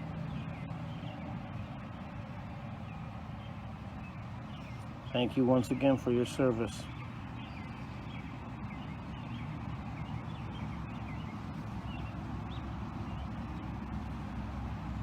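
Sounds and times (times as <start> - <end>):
road traffic rumble: 0.0 - 15.0
small birds chirping: 0.0 - 15.0.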